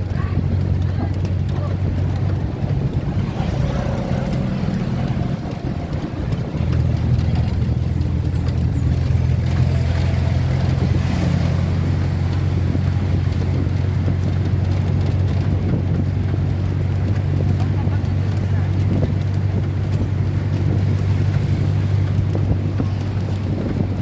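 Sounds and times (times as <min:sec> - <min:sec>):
tyre and road noise: 0:00.0 - 0:24.0
vehicle engine drone: 0:00.0 - 0:24.0.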